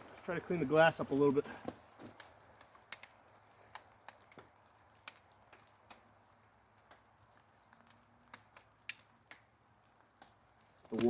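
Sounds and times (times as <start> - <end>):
water drops ticking: 0.1 - 11.0.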